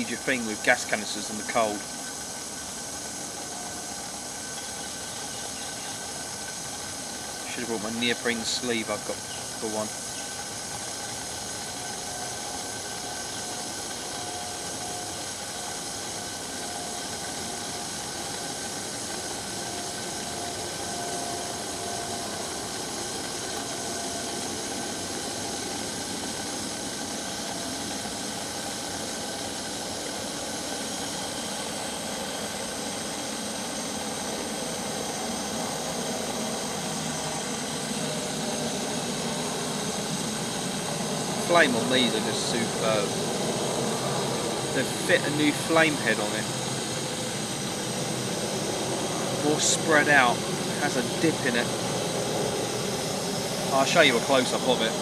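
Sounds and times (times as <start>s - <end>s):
gas stove burner hissing: 0.0s - 55.0s.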